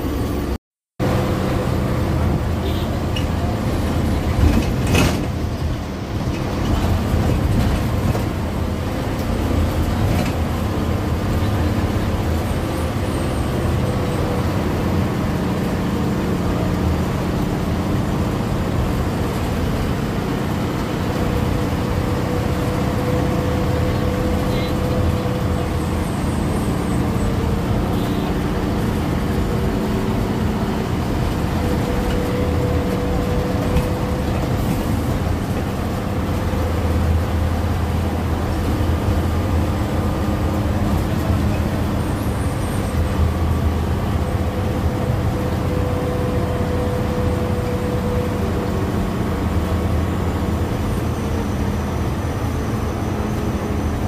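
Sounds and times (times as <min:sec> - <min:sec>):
bus engine rumble: 0:00.0 - 0:54.0
road noise: 0:00.0 - 0:54.0.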